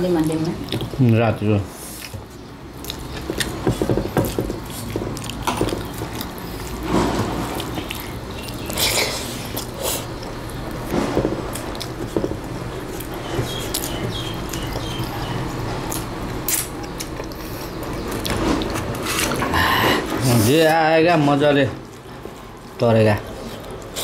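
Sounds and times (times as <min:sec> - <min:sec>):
people chewing: 0:00.0 - 0:24.0.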